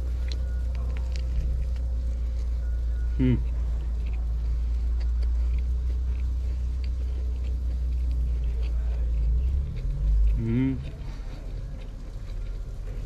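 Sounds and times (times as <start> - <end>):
person chewing food: 0.0 - 13.0
steady low rumble: 0.0 - 13.0.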